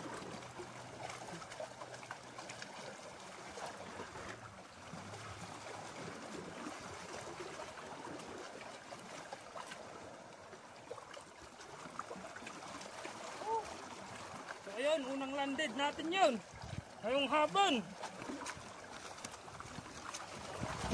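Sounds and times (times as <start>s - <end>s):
trickling splashes: 0.0s - 20.9s
waves lapping against rocks: 0.0s - 20.9s.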